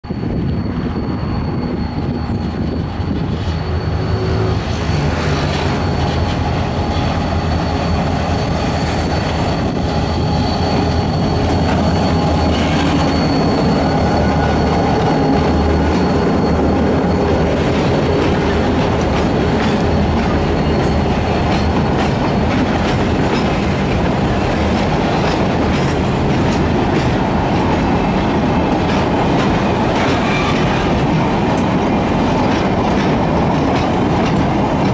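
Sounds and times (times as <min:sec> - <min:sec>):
diesel locomotive engine drone: 0:00.0 - 0:34.9
wheel squeal: 0:00.1 - 0:34.9
wagons clickety-clack over rail joints: 0:04.8 - 0:34.9.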